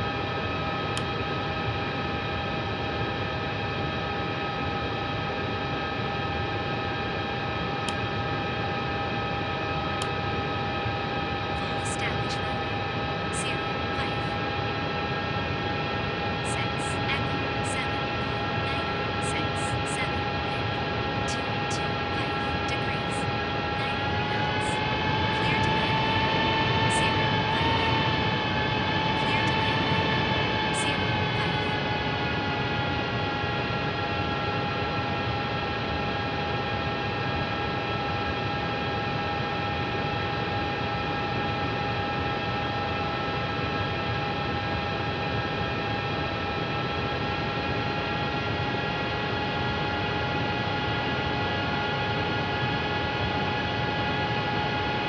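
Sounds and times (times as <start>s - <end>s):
cockpit engine rush and whine: 6.9s - 55.0s.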